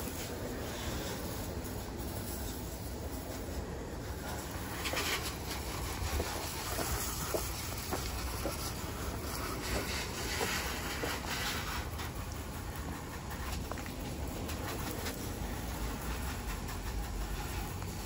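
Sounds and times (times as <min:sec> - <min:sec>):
steady low rumble: 0:00.0 - 0:18.0
water spraying from a hose: 0:00.0 - 0:18.0.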